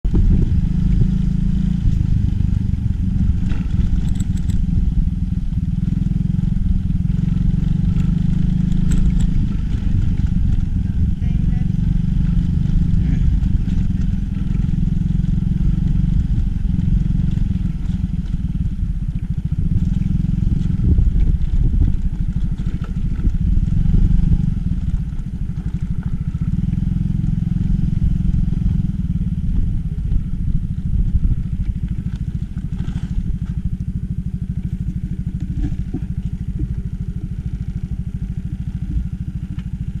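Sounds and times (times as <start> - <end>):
wind on microphone: 0.0 - 33.9
motorcycle engine rumble: 0.0 - 40.0.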